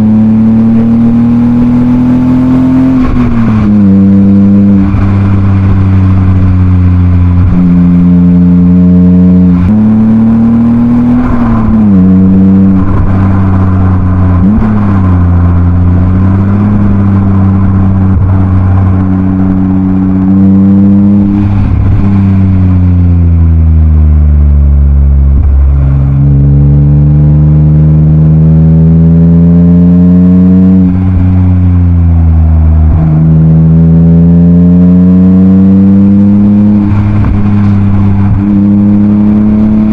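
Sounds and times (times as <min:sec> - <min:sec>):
car engine revving through gears: 0:00.0 - 0:39.9.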